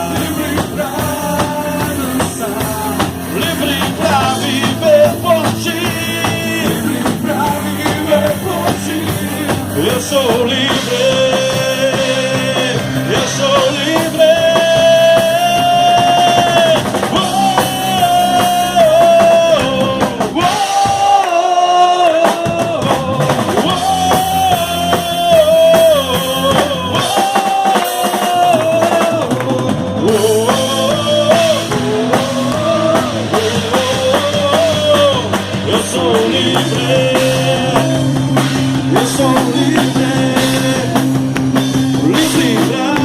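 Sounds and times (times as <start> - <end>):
rock band playing: 0.0 - 43.0
sliding lead melody: 0.0 - 43.0.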